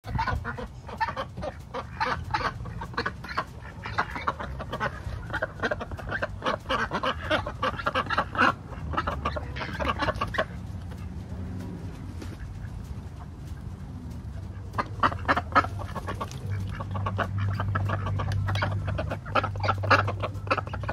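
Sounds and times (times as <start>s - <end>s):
chickens clucking: 0.0s - 20.9s
ducks quacking: 0.0s - 20.9s
low steady rumble: 0.0s - 20.9s.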